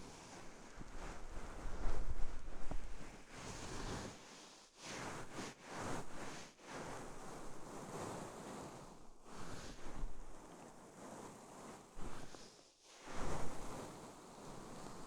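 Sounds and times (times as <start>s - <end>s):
fabric rustling on microphone: 0.0s - 12.5s, 13.1s - 15.0s.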